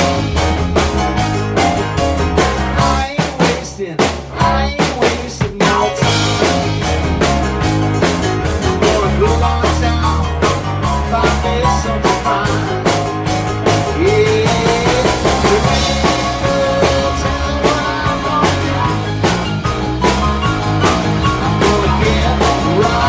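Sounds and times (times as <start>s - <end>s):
bass guitar: 0.0s - 23.0s
drum kit steady beat: 0.0s - 23.0s.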